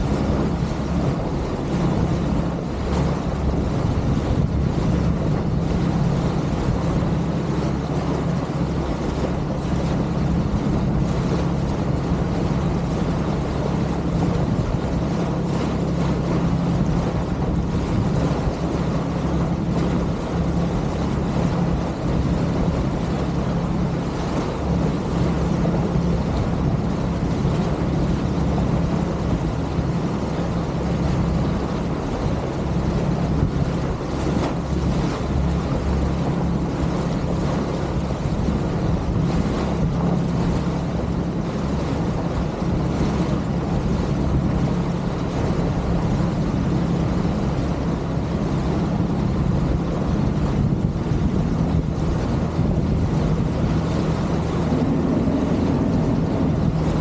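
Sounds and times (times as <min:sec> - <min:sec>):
motorboat engine running: 0:00.0 - 0:57.0
wind noise on microphone: 0:00.0 - 0:57.0.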